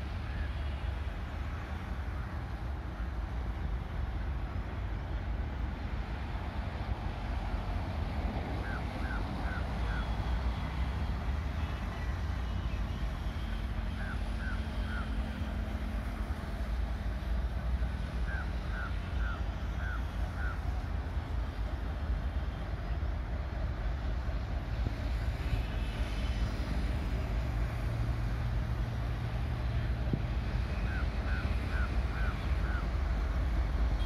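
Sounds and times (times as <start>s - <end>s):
diesel locomotives rumbling: 0.0s - 34.0s.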